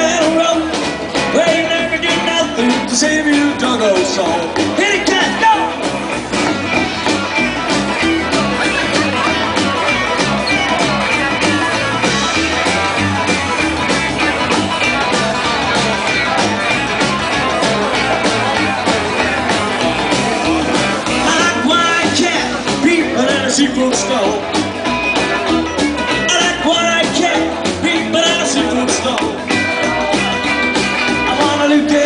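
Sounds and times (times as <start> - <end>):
rockabilly band playing: 0.0 - 32.0.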